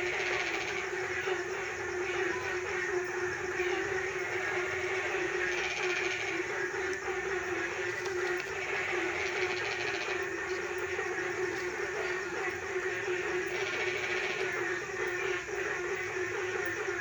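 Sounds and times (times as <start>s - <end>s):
chorus of frogs calling: 0.0s - 17.0s.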